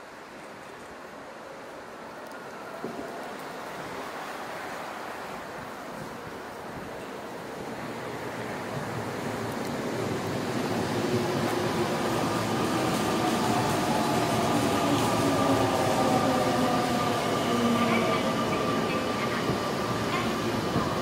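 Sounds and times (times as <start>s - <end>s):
train running on rails: 0.0s - 21.0s.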